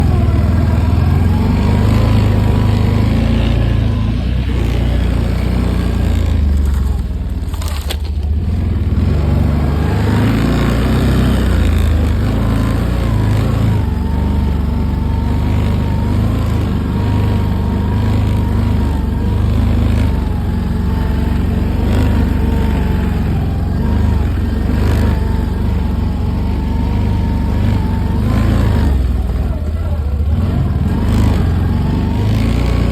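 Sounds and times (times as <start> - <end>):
motor vehicle running: 0.0 - 32.9.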